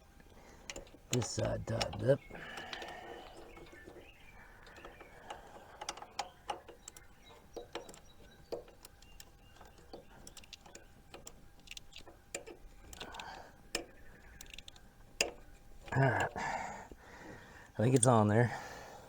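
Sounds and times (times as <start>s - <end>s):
hand tools clicking and tapping: 0.2s - 18.2s.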